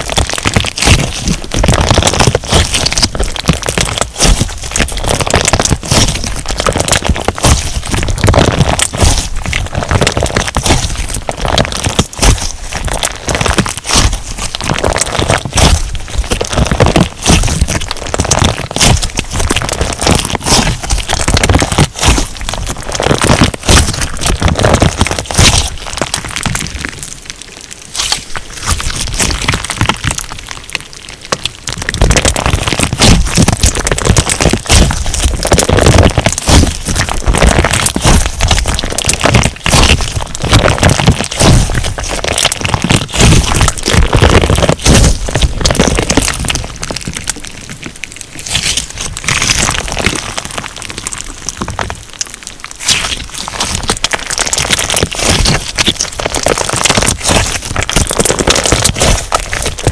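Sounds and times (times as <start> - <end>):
crunchy slime crackling and popping: 0.0 - 59.9.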